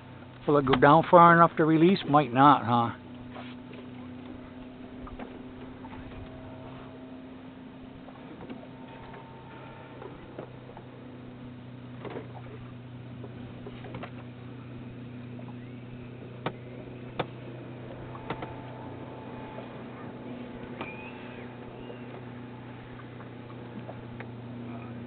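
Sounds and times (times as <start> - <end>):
steady low hum: 0.0 - 25.0
knocks of gear in boat: 3.1 - 6.9, 8.0 - 25.0.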